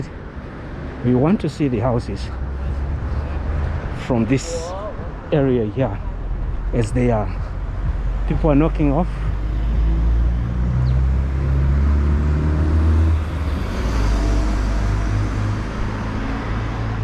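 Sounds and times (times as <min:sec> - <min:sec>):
cars driving by: 0:00.0 - 0:17.0.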